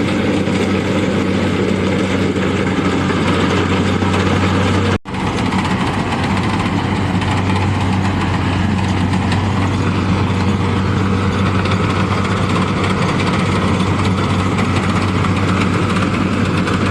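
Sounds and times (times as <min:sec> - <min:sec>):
combine harvester engine running: 0:00.0 - 0:16.9.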